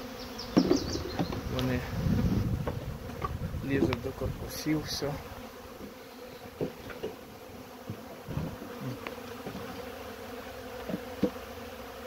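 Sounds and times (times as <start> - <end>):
bees buzzing past close: 0.0 - 12.0
honeybees buzzing: 0.0 - 12.0.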